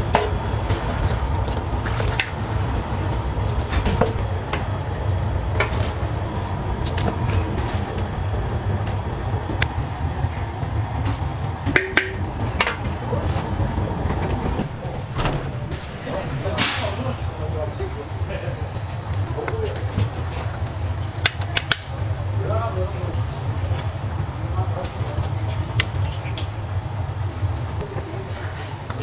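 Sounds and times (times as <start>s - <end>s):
low kitchen rumble: 0.0s - 29.0s.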